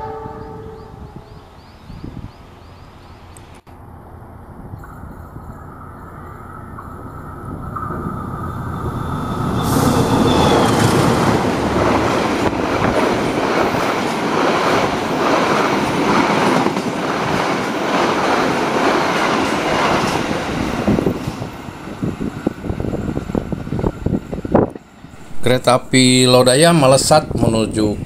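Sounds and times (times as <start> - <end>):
locomotive rumble: 0.0 - 28.0.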